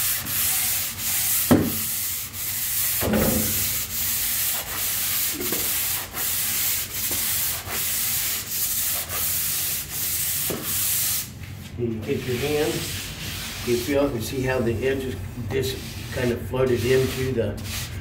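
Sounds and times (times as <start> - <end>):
pole sander rubbing drywall: 0.0 - 11.3, 12.0 - 18.0.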